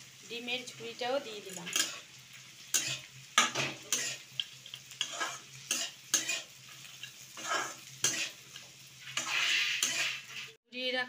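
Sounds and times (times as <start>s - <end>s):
metal spatula scraping a wok: 1.6s - 10.6s.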